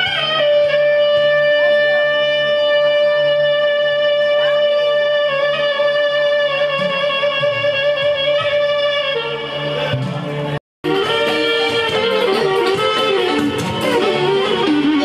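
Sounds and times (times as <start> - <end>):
reedy wind instrument long note: 0.0 - 15.0.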